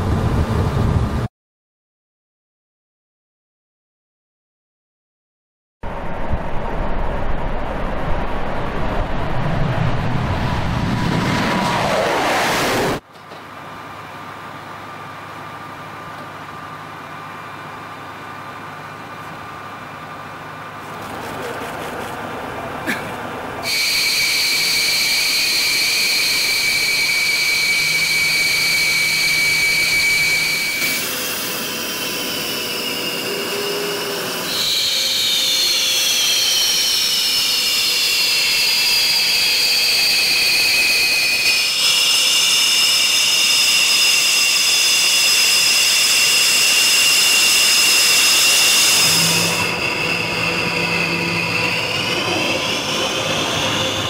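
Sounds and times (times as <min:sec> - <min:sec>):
jet engine turbine whine: 0:00.0 - 0:01.3, 0:05.8 - 0:20.8, 0:22.3 - 0:54.0.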